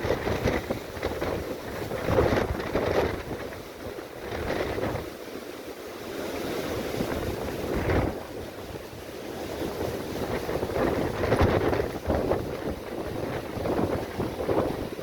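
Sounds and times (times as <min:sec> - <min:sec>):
gusty wind buffeting microphone: 0:00.0 - 0:05.2, 0:06.0 - 0:15.0
heavy surf breaking: 0:00.0 - 0:15.0.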